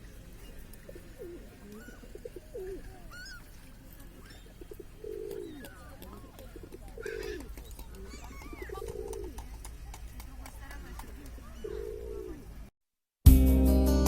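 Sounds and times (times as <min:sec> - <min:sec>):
birds calling: 0:00.0 - 0:12.7.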